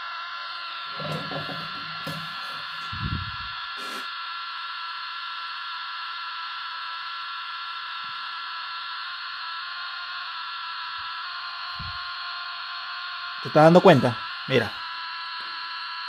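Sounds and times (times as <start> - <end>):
radio static hiss: 0.0 - 5.0, 7.6 - 16.0
faint whining tones: 0.0 - 16.0.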